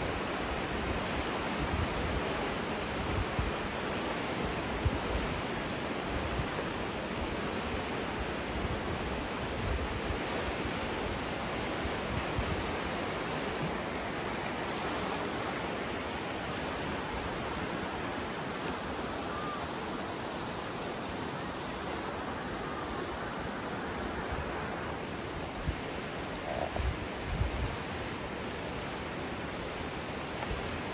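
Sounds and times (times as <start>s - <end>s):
river water rushing: 0.0s - 30.9s.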